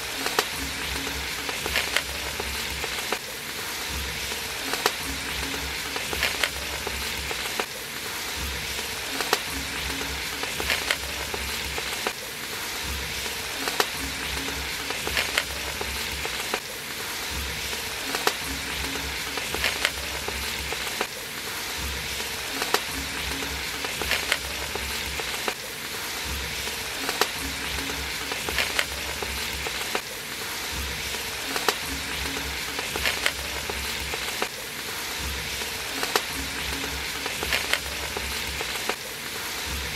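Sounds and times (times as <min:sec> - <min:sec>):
food sizzling in a pot: 0:00.0 - 0:39.9.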